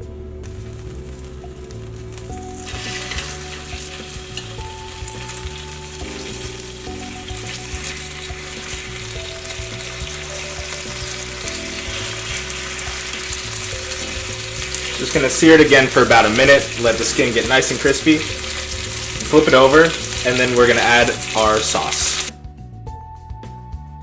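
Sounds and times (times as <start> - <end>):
quiet background music: 0.0 - 24.0
chicken sizzling in oil: 0.4 - 22.4.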